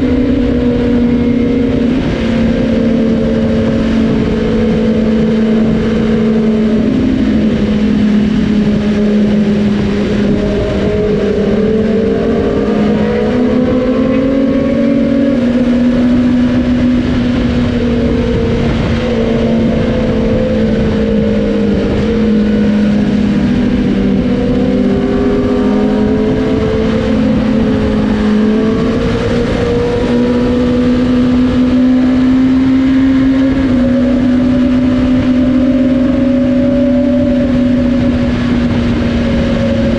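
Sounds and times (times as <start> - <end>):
motorcycle engines running: 0.0 - 39.9
rush of noise: 0.0 - 39.9.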